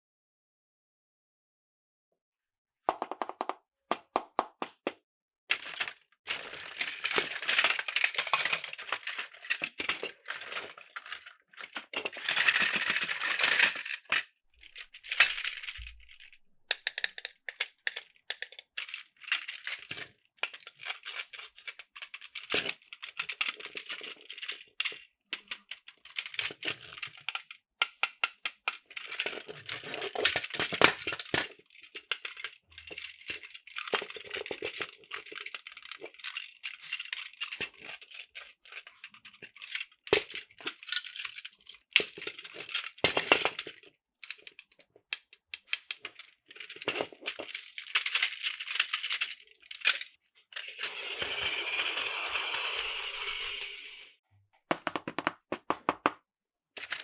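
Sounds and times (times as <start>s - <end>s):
toy train cars clicking: 5.5s - 54.2s, 56.8s - 57.0s.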